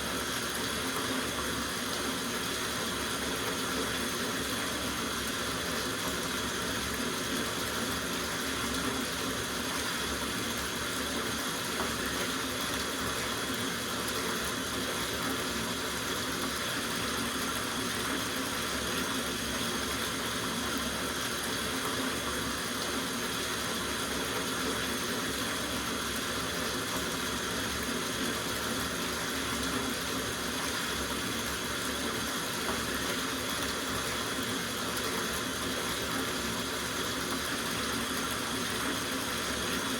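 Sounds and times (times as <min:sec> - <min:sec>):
tap water running into bathtub: 0:00.0 - 0:39.9.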